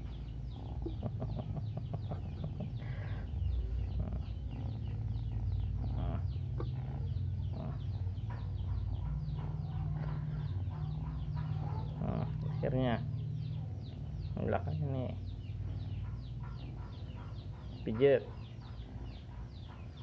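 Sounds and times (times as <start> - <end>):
chickens chirping: 0.0 - 20.0
low steady hum: 0.0 - 20.0.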